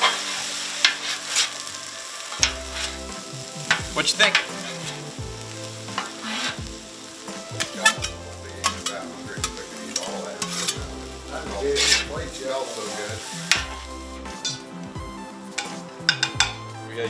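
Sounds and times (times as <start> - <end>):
metal spatulas scraping griddle: 0.0 - 5.2, 5.8 - 14.8, 15.4 - 16.6
food sizzling: 0.0 - 17.0.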